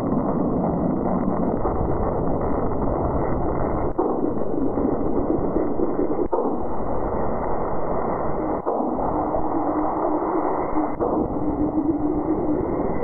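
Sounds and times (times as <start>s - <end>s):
steady low hum: 0.0s - 13.0s
steady rushing noise: 0.0s - 13.0s.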